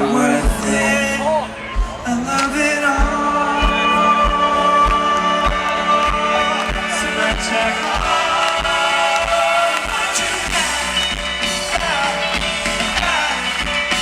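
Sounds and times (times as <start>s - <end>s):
indie rock band playing live: 0.0s - 14.0s
person singing: 0.0s - 14.0s
steady kick drum beat: 0.0s - 14.0s.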